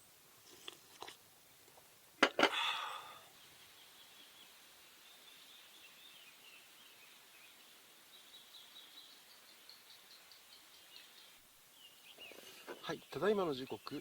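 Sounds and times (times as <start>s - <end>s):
quiet outdoor ambience: 0.0s - 14.0s.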